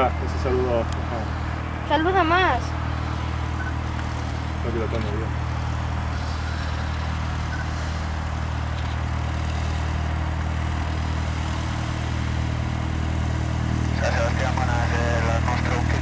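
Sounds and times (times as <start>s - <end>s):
propeller plane engine running: 0.0s - 16.0s.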